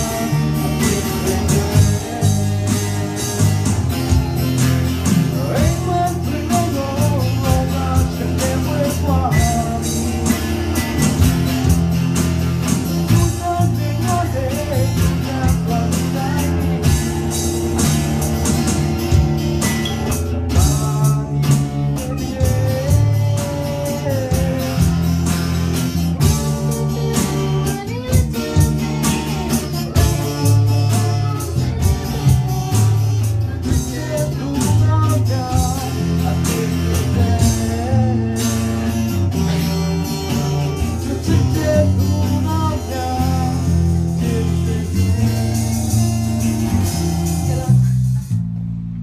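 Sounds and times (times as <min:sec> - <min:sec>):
man and woman singing: 0:00.0 - 0:03.8, 0:05.0 - 0:11.2, 0:13.0 - 0:17.5, 0:20.5 - 0:46.1
acoustic guitar: 0:00.0 - 0:49.0
bass line: 0:00.0 - 0:49.0
drums: 0:00.0 - 0:49.0.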